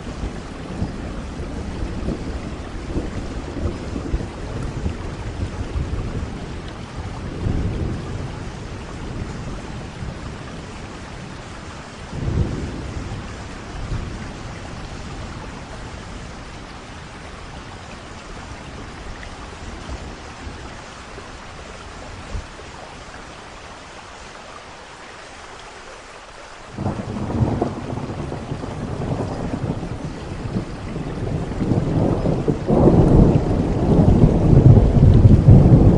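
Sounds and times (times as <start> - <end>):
thunder rumbling: 0.0 - 23.4, 26.7 - 35.9
steady rain falling: 0.0 - 35.9.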